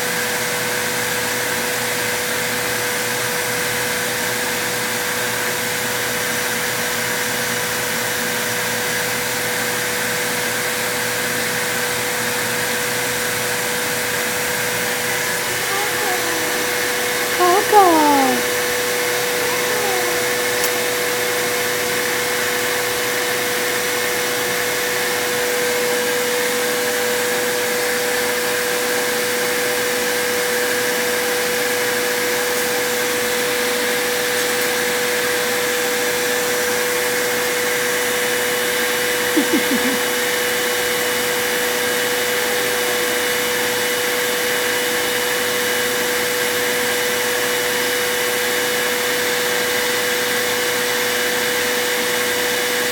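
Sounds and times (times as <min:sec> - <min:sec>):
vacuum cleaner running: 0:00.2 - 0:17.4, 0:18.4 - 0:52.9.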